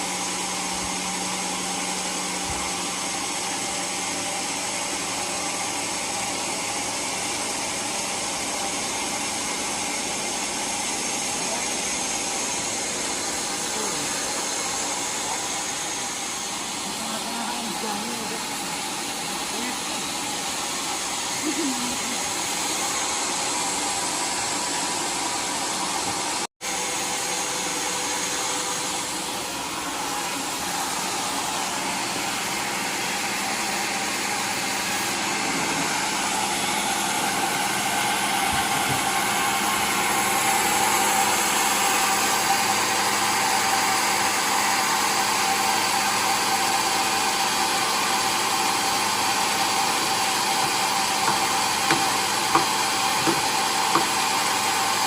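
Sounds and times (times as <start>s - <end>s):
sawmill sawing wood: 0.0s - 55.0s.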